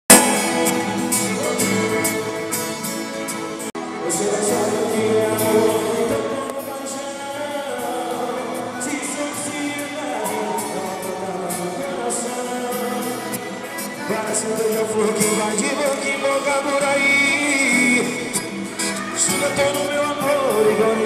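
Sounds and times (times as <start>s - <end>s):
man singing into a microphone: 0.1s - 2.6s, 3.8s - 21.0s
accordion playing: 0.1s - 21.0s
acoustic guitar strumming: 0.1s - 21.0s.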